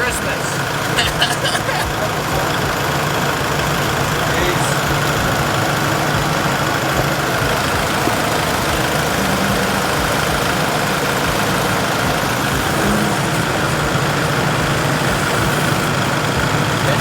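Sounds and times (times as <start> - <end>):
constant rushing noise: 0.0 - 17.0
tractor diesel engine running: 0.0 - 17.0.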